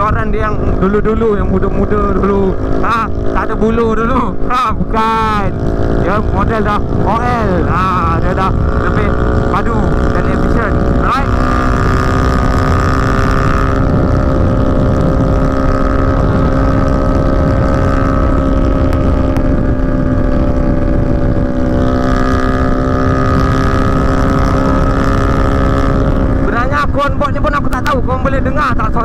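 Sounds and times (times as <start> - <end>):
motorcycle engine cruising: 0.0 - 29.0
wind and road noise: 0.0 - 29.0.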